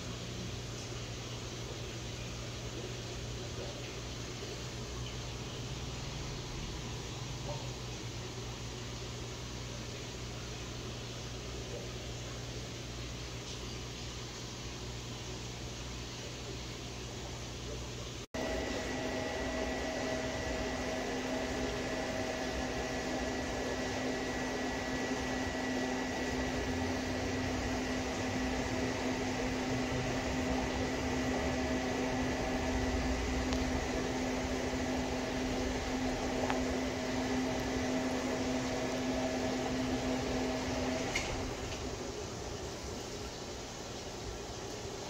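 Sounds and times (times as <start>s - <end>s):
aquarium equipment hum and hiss: 0.0s - 45.0s.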